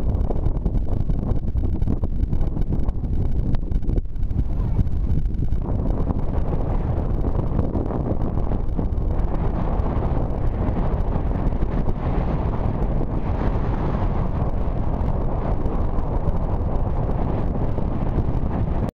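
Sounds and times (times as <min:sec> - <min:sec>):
storm wind buffeting microphone: 0:00.0 - 0:18.9.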